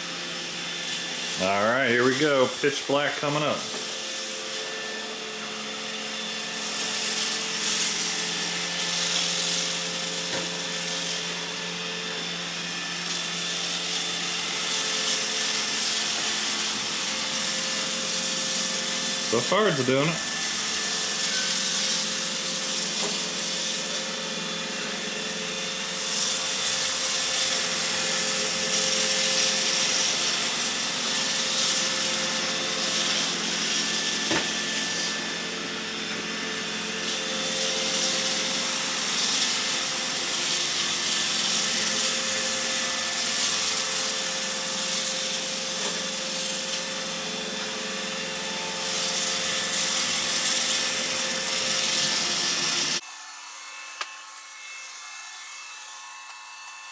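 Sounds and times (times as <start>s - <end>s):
robot vacuum humming: 0.0s - 53.0s.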